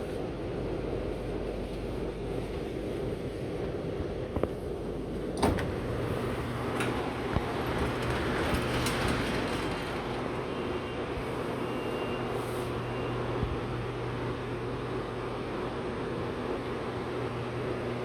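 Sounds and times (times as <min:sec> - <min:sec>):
metro train running noise: 0:00.0 - 0:18.0.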